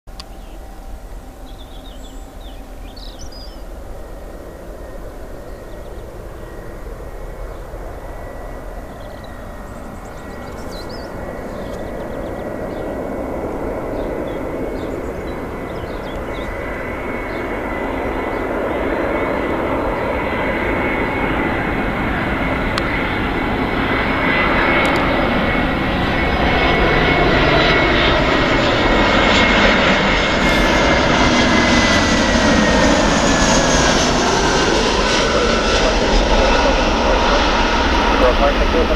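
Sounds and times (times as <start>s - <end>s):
high engine whine: 0.1s - 38.9s
jet engines on approach: 0.1s - 38.9s.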